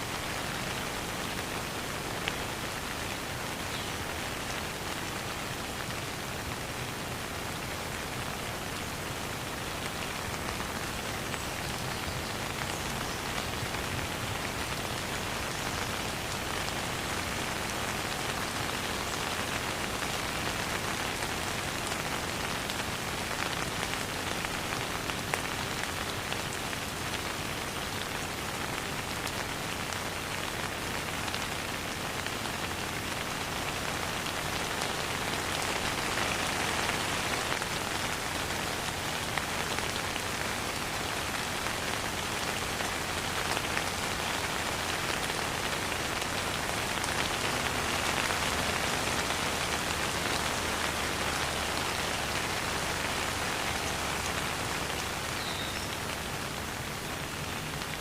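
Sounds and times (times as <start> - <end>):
rain pattering on surfaces: 0.0 - 58.0.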